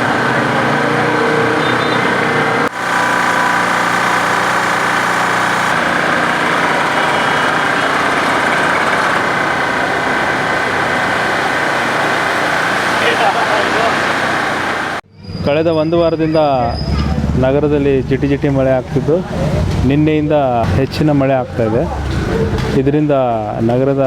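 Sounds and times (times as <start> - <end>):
street traffic engines: 0.0 - 24.0.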